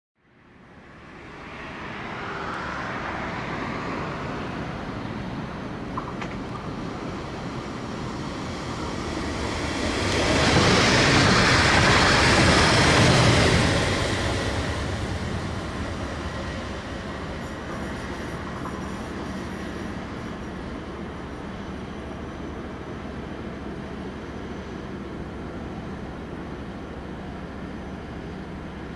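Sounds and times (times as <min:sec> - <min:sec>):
train wheels rolling on rails: 0:03.9 - 0:28.9.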